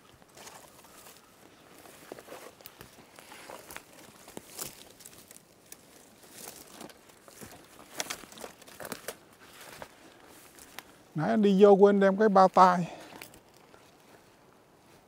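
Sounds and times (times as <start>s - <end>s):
forest litter rustling and crackling: 0.0s - 15.0s.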